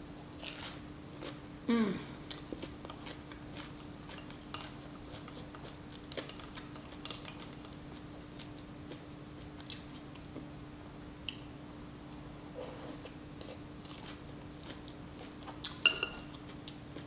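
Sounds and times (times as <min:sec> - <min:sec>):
soft chewing: 0:00.4 - 0:01.4, 0:02.2 - 0:10.5, 0:11.2 - 0:17.0.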